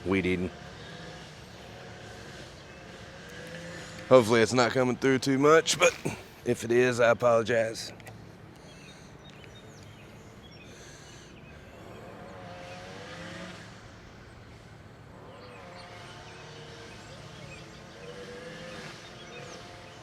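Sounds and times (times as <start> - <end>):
distant string trimmer engine whining: 0.0 - 20.0.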